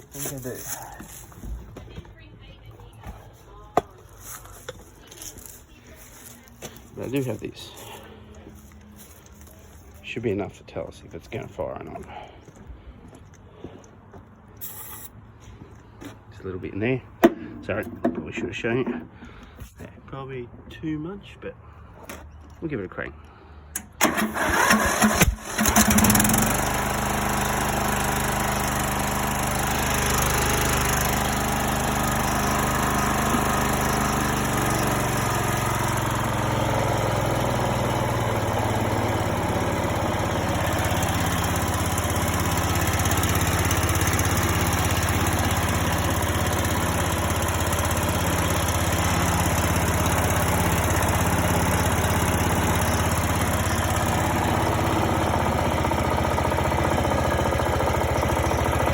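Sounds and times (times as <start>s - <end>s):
mower engine running: 0.0s - 15.8s, 23.4s - 58.9s.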